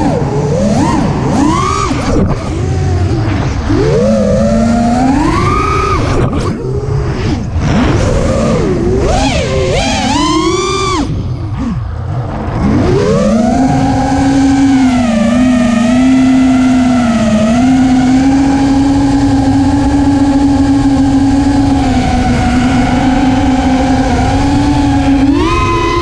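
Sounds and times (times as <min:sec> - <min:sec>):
quadcopter motors whining: 0:00.0 - 0:26.0
wind noise: 0:00.0 - 0:26.0.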